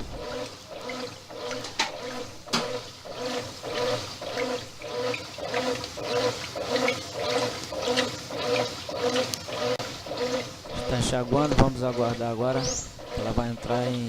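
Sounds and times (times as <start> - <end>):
pulsing motor hum: 0.0 - 14.0
water sloshing in washing machine: 0.0 - 14.0.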